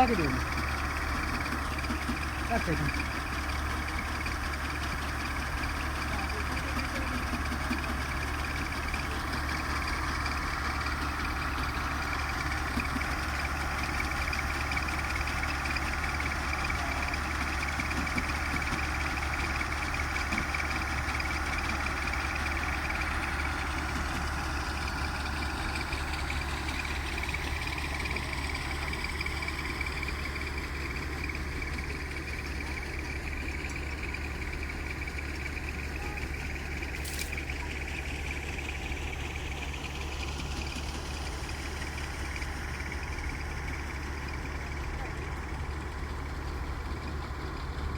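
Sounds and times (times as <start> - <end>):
farm machinery engine running: 0.0 - 47.9.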